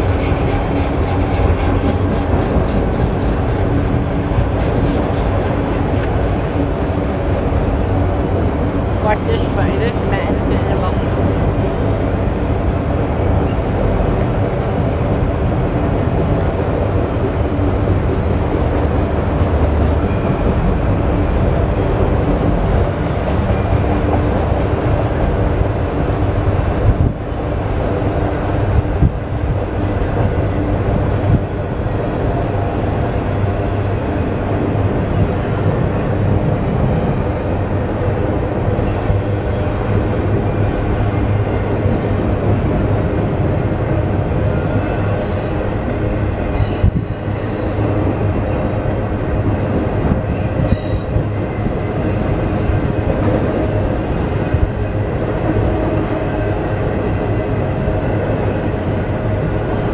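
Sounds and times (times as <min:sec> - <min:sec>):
train rumbling across steel bridge: 0:00.0 - 0:59.9.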